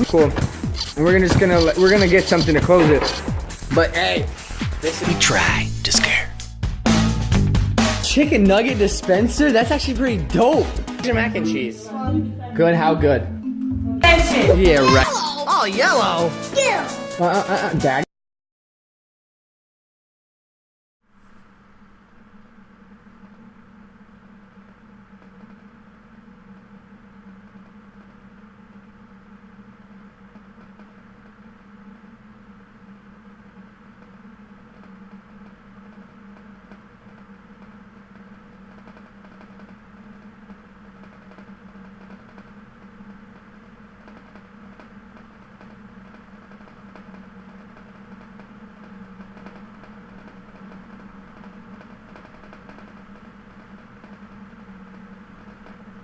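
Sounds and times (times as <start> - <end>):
steady low hum: 0.0 - 15.1, 21.1 - 56.0.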